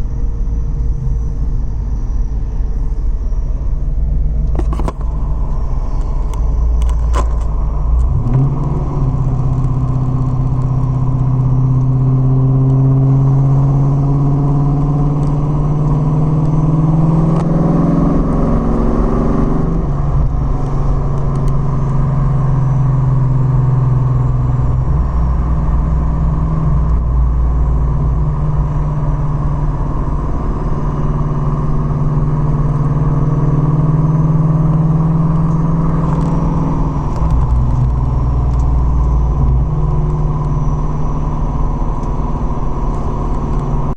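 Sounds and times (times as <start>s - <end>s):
car engine droning: 0.0s - 43.9s
high-pitched whine: 0.0s - 43.9s.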